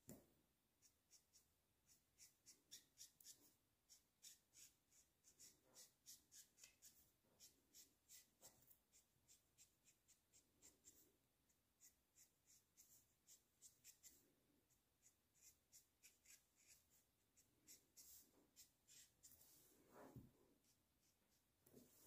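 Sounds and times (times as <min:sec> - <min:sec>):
marker strokes on paper: 0:00.8 - 0:22.0.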